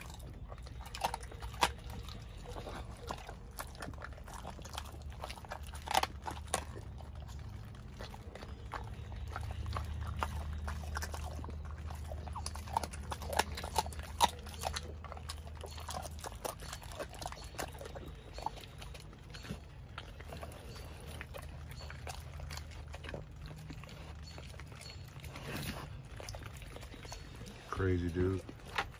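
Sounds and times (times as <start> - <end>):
dog chewing raw chicken: 0.0 - 28.9.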